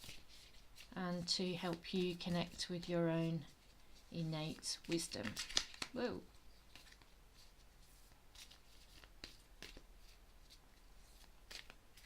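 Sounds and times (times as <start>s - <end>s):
cards being shuffled: 1.6s - 12.0s.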